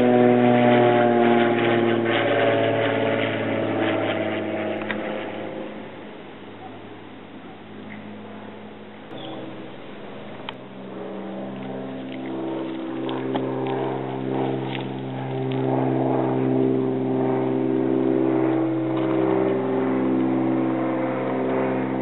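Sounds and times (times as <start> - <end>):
propeller aircraft engine drone: 0.0 - 22.0.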